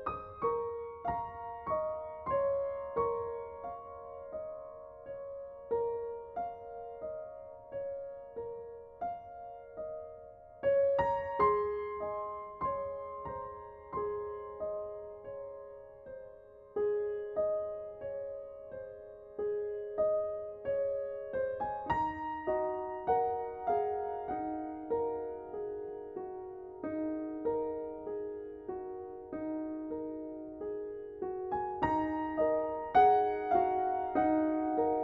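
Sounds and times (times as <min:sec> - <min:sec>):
slow solo piano music: 0:00.0 - 0:35.0.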